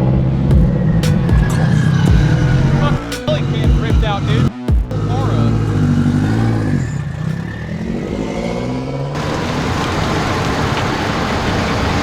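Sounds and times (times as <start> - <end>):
car engine running: 0.0 - 8.1, 9.2 - 12.0.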